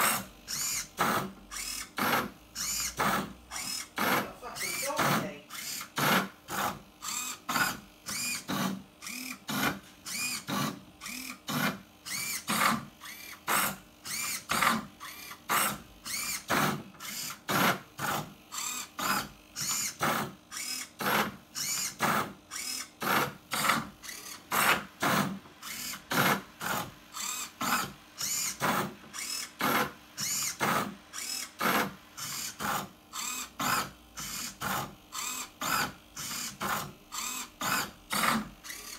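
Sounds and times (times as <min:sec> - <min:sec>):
robot motors whirring: 0:00.0 - 0:38.9.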